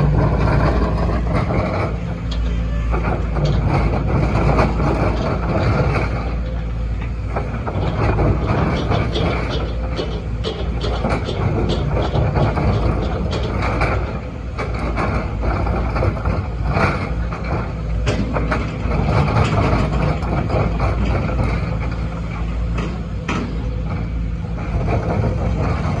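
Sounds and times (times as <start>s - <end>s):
excavator diesel engine running: 0.0s - 26.0s
machine knocks and clatter: 0.0s - 26.0s.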